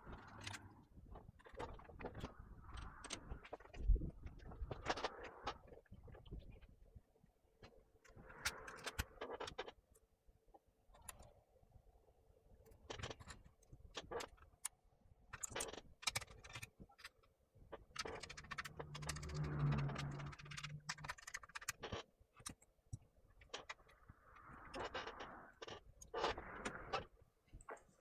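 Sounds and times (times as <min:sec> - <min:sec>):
laptop parts clicking and scraping: 0:00.0 - 0:06.7, 0:08.1 - 0:09.8, 0:10.9 - 0:11.4, 0:12.7 - 0:28.0.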